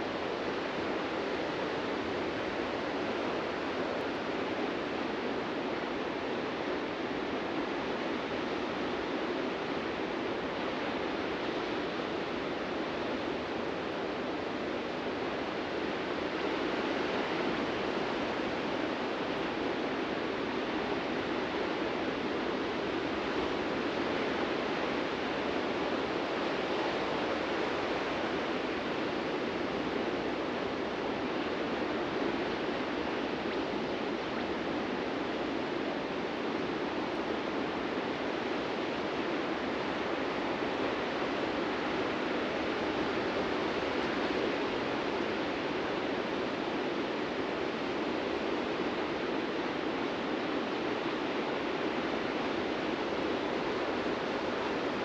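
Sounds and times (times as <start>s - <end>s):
ocean surf breaking on beach: 0.0s - 55.0s.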